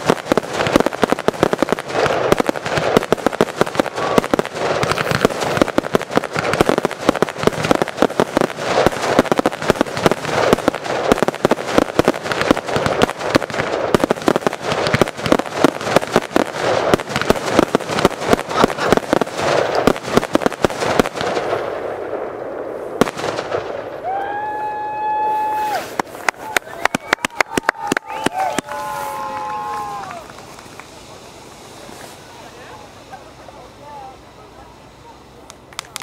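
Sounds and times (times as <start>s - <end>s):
fireworks barrage crackling: 0.0s - 36.0s.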